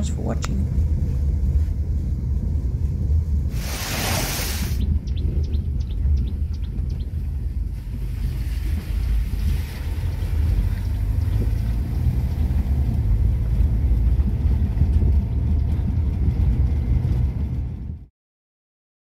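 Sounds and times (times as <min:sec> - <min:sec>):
vehicle driving on wet dirt road: 0:00.0 - 0:18.1.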